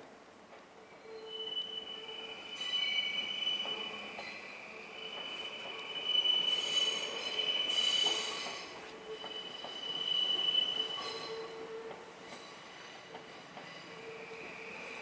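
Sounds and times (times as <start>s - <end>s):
train wheels squealing on rails: 0.8s - 15.0s.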